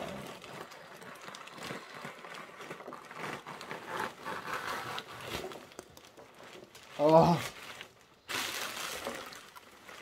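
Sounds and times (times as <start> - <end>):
foam packing peanuts rustling: 0.0 - 10.0.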